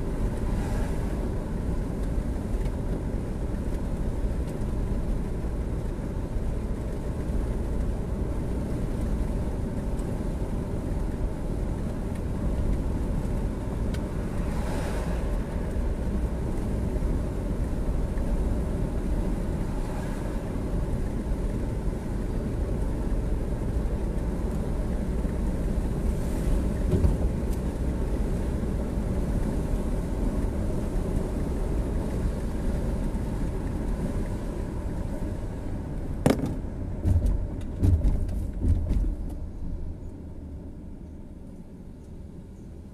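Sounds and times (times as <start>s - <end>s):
vehicle engine and road rumble: 0.0s - 42.9s.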